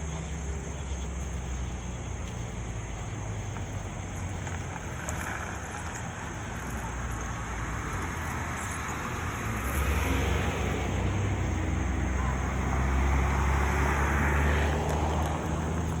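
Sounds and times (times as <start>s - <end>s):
vehicle rumble: 0.0s - 16.0s
wind: 0.0s - 16.0s.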